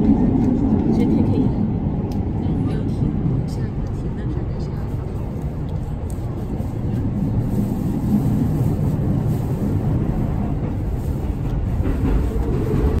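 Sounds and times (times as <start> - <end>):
train rumble inside carriage: 0.0 - 13.0.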